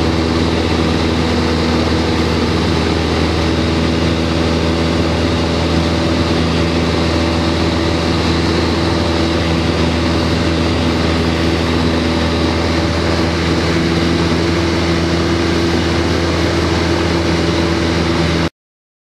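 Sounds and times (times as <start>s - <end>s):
light aircraft engine drone: 0.0s - 18.5s.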